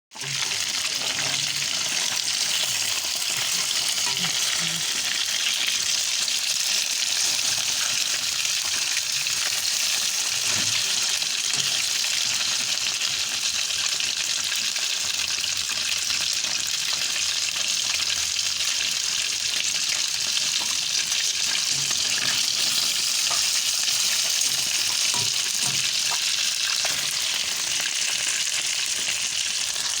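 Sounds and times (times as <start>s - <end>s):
fish frying in hot oil: 0.1s - 30.0s.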